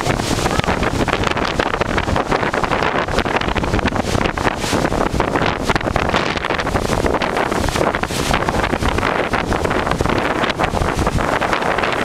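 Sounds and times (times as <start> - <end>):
strong wind blowing on microphone: 0.0 - 12.0.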